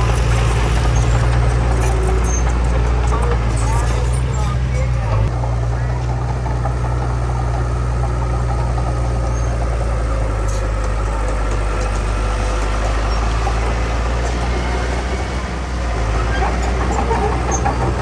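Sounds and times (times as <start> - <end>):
heavy diesel machinery engine: 0.0 - 18.0.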